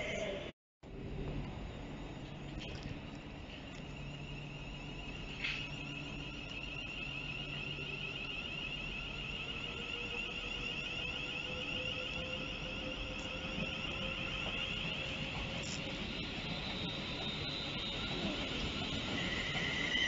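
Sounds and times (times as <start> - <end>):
train wheel squeal: 1.6 - 20.0
train wheel clack: 2.5 - 20.0.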